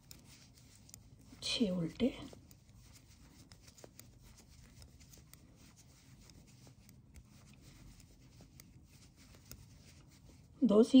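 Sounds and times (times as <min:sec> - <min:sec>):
knitting needles clicking: 0:00.0 - 0:11.0.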